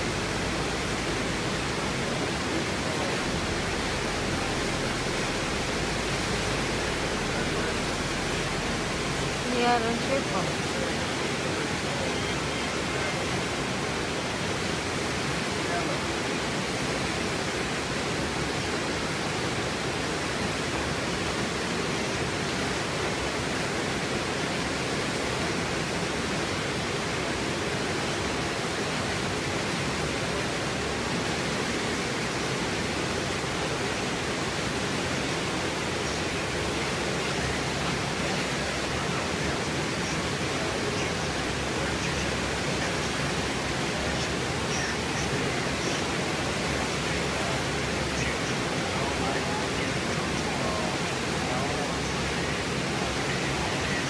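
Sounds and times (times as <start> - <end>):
waterfall and rapids rushing: 0.0 - 54.0.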